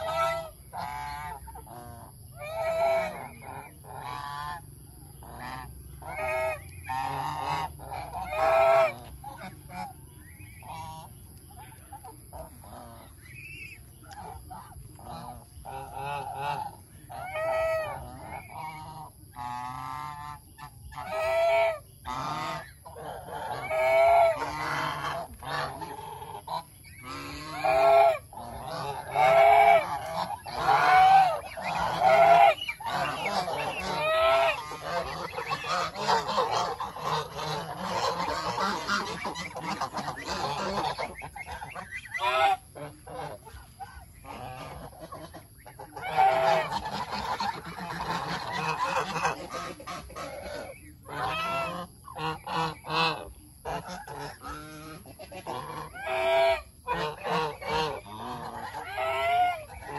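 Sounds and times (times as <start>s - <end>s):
geese honking: 0.0s - 59.9s.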